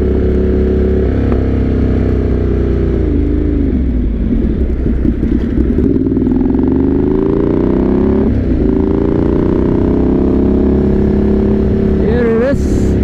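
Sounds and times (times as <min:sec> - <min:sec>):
motorcycle engine accelerating: 0:00.0 - 0:13.0
wind and road noise: 0:00.0 - 0:13.0.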